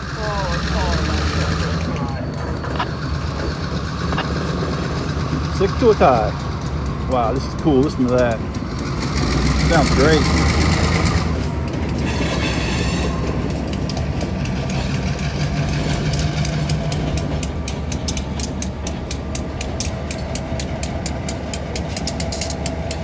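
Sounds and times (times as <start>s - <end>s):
diesel locomotive engine drone: 0.0s - 23.0s
rapid ticking of train wheels: 0.0s - 23.0s.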